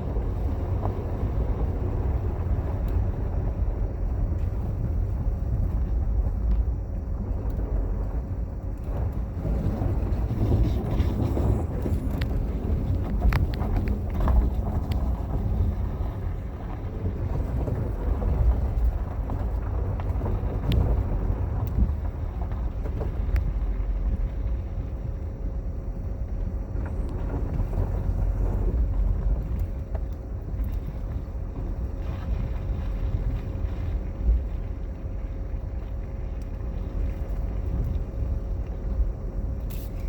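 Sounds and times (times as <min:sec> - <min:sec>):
engine and tyres rumbling: 0:00.0 - 0:40.0
wind noise: 0:00.0 - 0:40.0.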